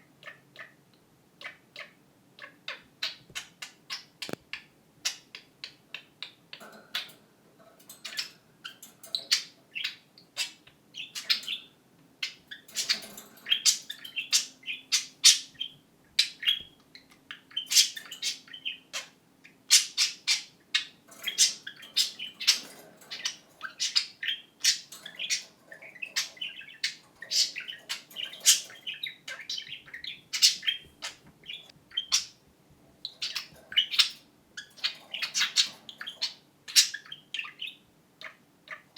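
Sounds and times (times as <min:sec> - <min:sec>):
budgerigars chattering and warbling: 0:00.1 - 0:07.2, 0:07.8 - 0:32.4, 0:33.0 - 0:38.9.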